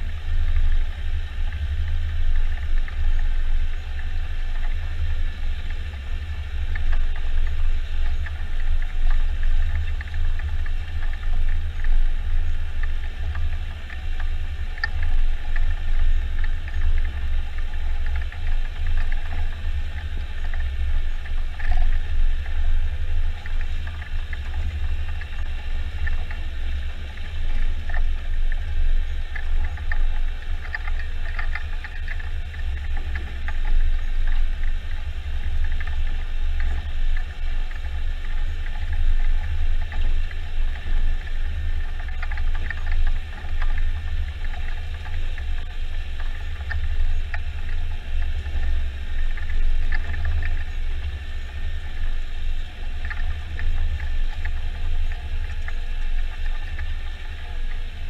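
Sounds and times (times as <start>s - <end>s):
low engine drone: 0.0s - 58.0s.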